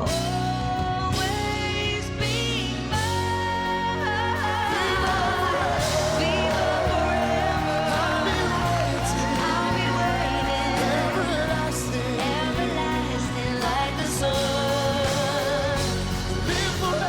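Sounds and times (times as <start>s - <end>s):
band accompaniment: 0.0s - 17.0s.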